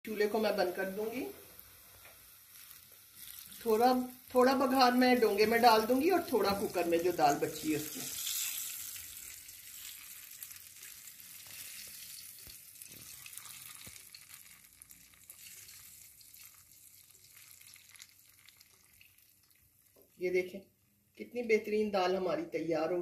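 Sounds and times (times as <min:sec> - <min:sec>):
onions and spices sizzling in ghee: 0:00.1 - 0:22.4.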